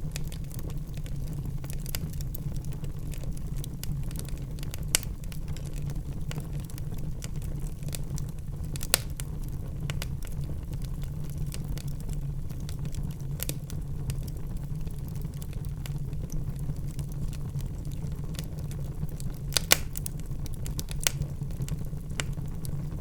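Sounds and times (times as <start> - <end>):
fire crackles: 0.0 - 23.0
loud fire pops: 0.0 - 23.0
wood fire rumbling: 0.0 - 23.0.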